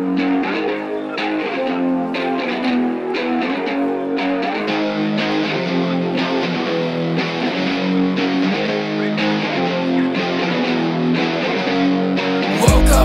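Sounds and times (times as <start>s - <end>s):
guitar playing sustained chords: 0.0s - 13.0s.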